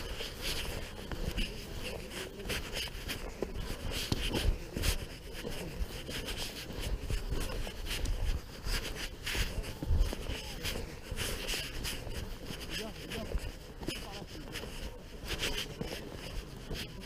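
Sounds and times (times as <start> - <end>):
wind rumbling on microphone: 0.0 - 13.9
footsteps through grass: 0.0 - 17.0.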